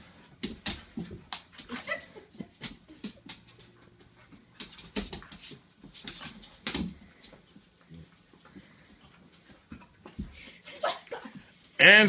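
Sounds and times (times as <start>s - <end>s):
dogs play-fighting: 0.0s - 11.7s.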